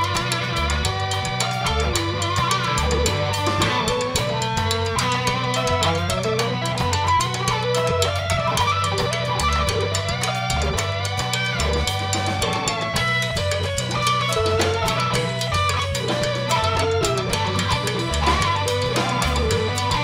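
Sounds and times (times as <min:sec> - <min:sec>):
congas: 0:00.0 - 0:20.0
drum kit: 0:00.0 - 0:20.0
electric guitar: 0:00.0 - 0:20.0
electric keyboard: 0:00.0 - 0:20.0.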